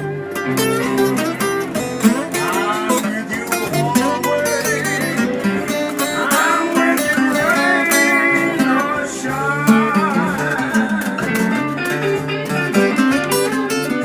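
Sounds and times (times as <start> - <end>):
blues lead guitar with bent notes: 0.0 - 14.0
sustained guitar chords: 0.0 - 14.0.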